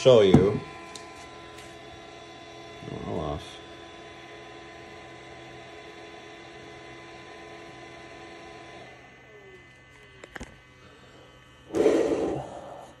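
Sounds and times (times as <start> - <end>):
fan humming with steady tones: 0.0 - 13.0.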